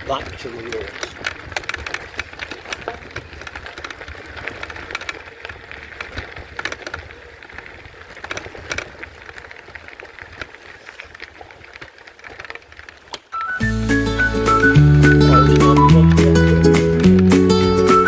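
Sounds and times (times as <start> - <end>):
bike clicking and rattling: 0.0 - 18.0
bike tyres rumbling on rough path: 0.0 - 18.0.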